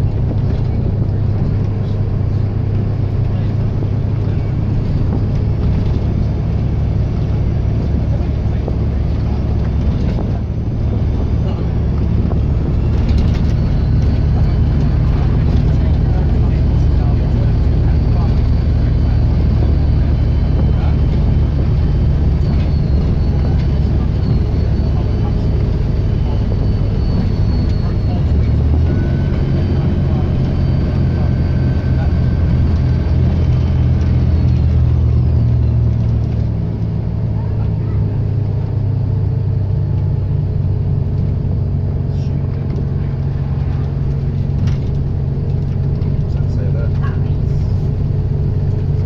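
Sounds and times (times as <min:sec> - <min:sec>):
bus diesel engine drone: 0:00.0 - 0:49.0.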